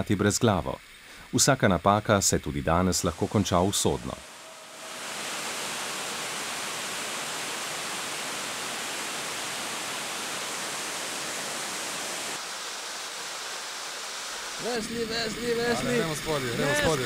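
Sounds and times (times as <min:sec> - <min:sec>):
waterfall rushing: 0:02.7 - 0:17.0.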